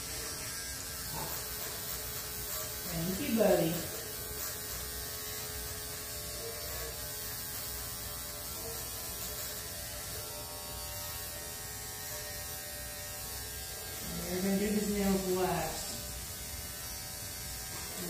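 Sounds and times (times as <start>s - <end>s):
electric dog clipper humming: 0.0s - 18.0s.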